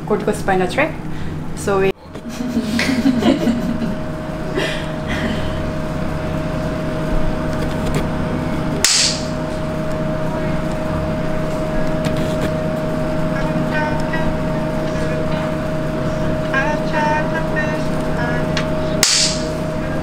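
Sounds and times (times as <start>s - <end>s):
cooling fan: 0.0s - 20.0s
electrical equipment hum: 0.0s - 20.0s.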